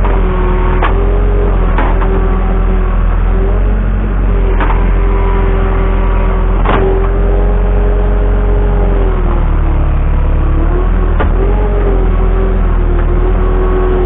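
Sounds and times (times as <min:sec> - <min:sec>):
held whine: 0:00.0 - 0:14.0
skid steer engine running: 0:00.0 - 0:14.0.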